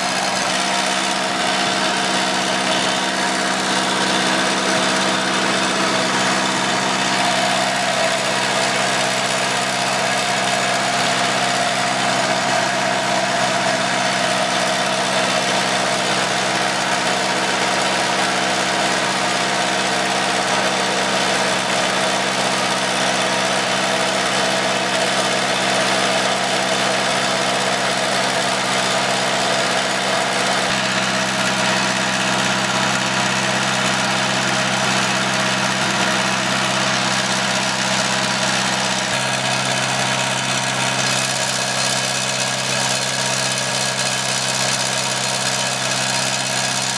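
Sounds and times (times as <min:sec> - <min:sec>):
concrete saw engine running: 0:00.0 - 0:46.9.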